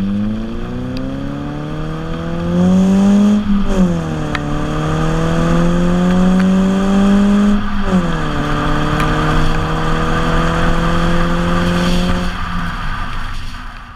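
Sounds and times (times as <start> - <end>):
car engine accelerating: 0.0 - 13.7.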